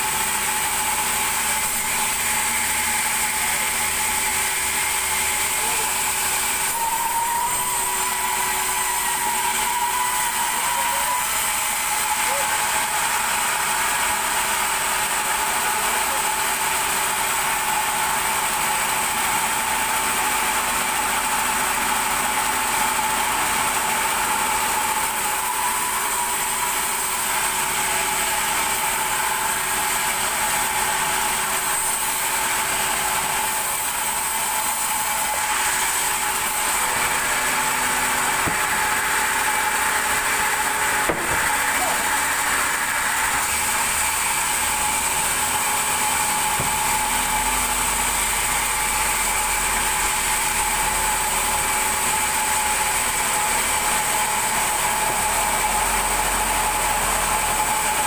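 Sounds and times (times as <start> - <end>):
band saw cutting timber: 0.0 - 58.0.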